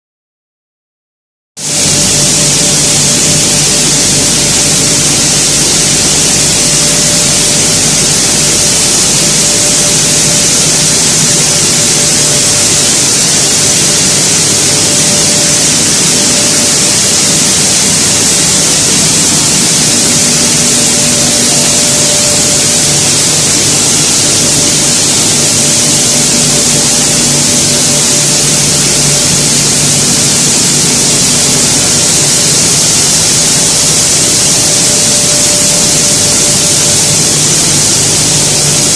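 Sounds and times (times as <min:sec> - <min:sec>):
extra hum tone: 0:01.6 - 0:38.9
milling machinery roaring: 0:01.6 - 0:38.9
low machine hum: 0:01.7 - 0:38.9.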